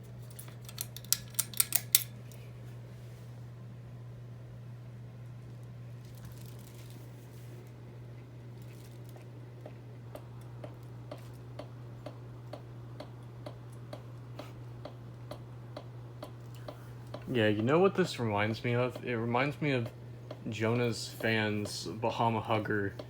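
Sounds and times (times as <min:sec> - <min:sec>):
ceiling fan motor humming: 0:00.0 - 0:23.0.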